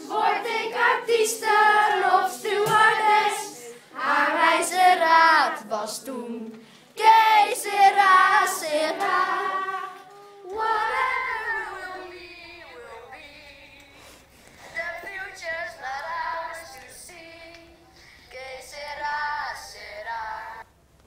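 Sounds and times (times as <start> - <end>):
children singing: 0.0 - 13.7, 14.7 - 20.6.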